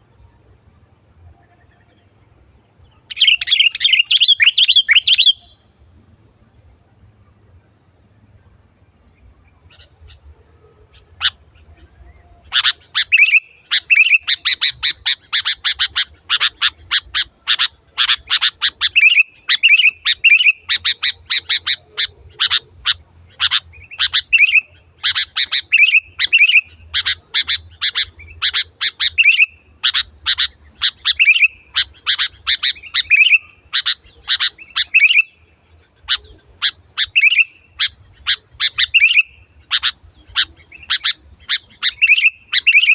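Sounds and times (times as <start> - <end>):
bulbul singing: 1.4 - 5.8, 9.2 - 42.9.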